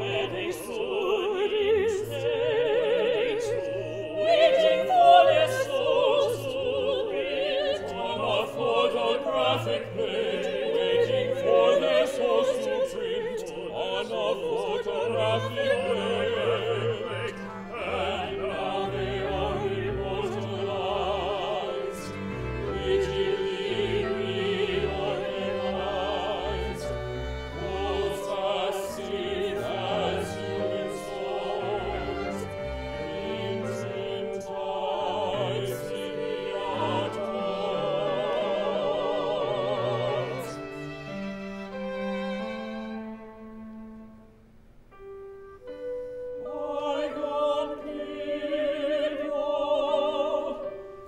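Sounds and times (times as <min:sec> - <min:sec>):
operatic singing with vibrato: 0:00.0 - 0:43.9, 0:45.6 - 0:51.0
small orchestra playing: 0:00.0 - 0:51.0.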